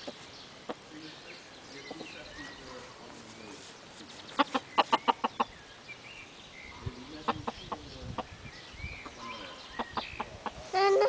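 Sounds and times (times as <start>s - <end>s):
chickens clucking: 0.0s - 3.4s, 4.0s - 5.8s, 6.7s - 11.0s.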